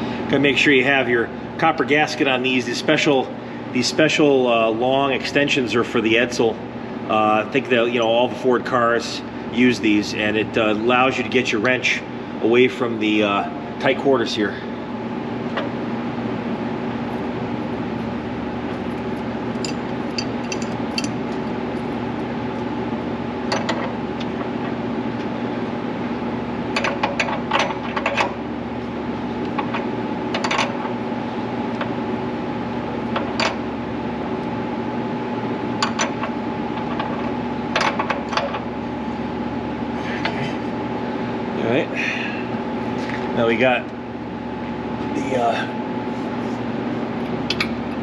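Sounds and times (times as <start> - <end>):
workshop hum: 0.0 - 48.0.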